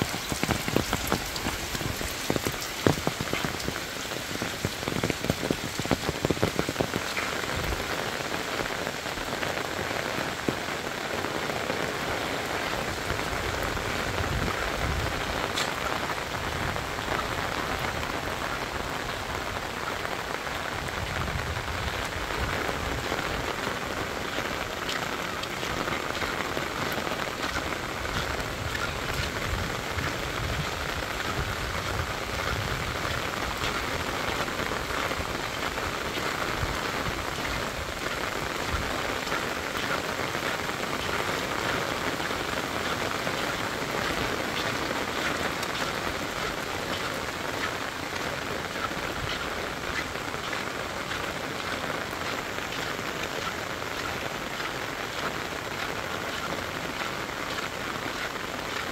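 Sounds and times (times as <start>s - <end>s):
rain falling on asphalt: 0.0s - 58.9s.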